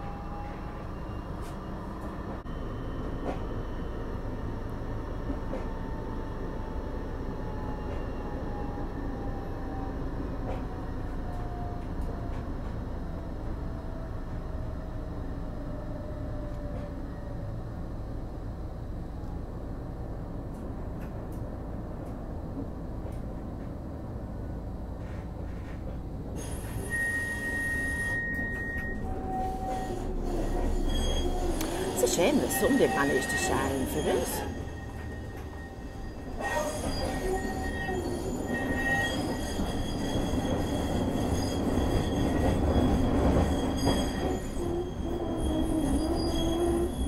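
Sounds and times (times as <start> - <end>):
tram running rumble: 0.0 - 47.0.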